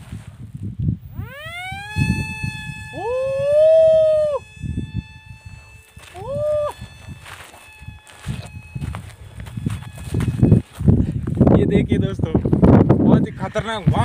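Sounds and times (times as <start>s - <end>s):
low wind rumble: 0.0s - 14.0s
toy glider motor whine: 1.0s - 14.0s.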